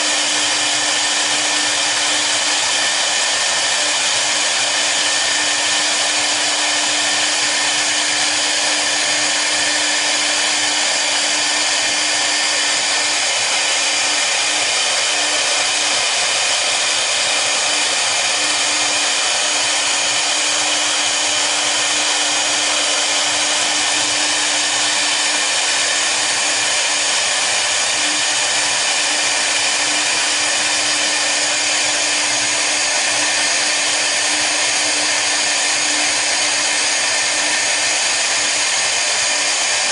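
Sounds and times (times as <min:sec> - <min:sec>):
router machine whirring: 0:00.0 - 0:39.9.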